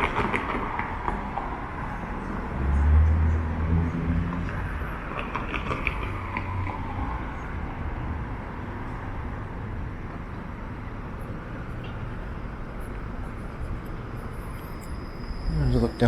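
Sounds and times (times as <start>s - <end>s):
street traffic passing: 0.0s - 16.0s.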